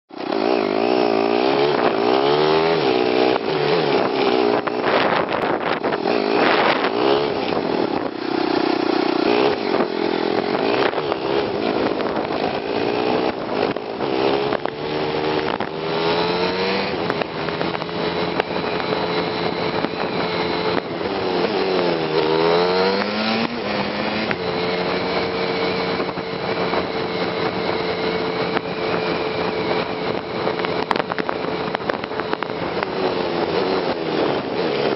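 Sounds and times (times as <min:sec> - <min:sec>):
sped-up motorcycle engine revving: 0:00.1 - 0:34.9.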